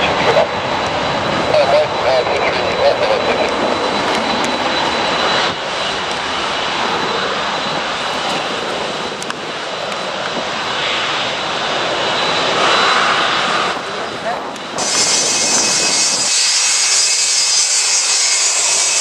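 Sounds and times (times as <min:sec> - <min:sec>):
jet engines rushing with high whine: 0:00.0 - 0:19.0.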